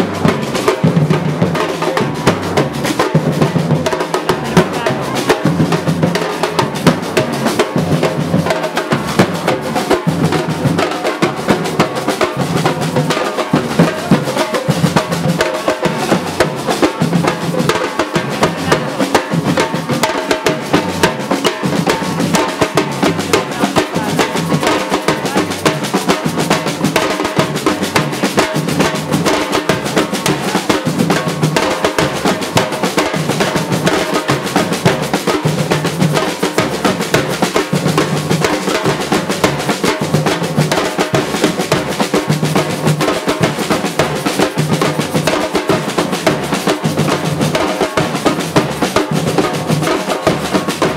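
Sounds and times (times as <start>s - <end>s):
drums beating fast rhythm: 0.0s - 50.9s.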